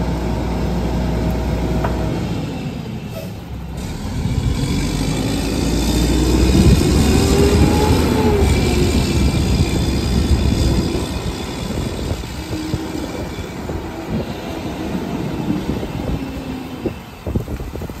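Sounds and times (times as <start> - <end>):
garbage truck diesel engine: 0.0 - 18.0
truck squealing: 2.0 - 17.9.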